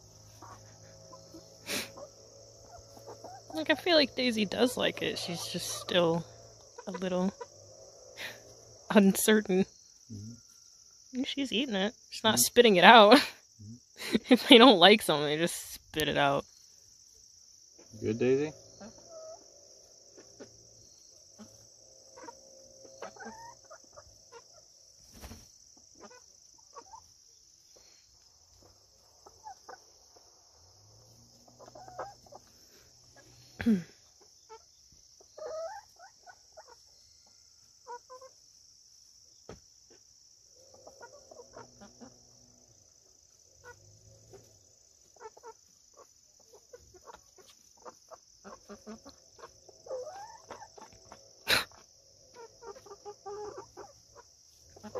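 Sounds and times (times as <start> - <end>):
chickens clucking softly: 0.0 - 8.7, 17.8 - 38.7, 39.4 - 54.9
high insect trill: 0.0 - 54.9.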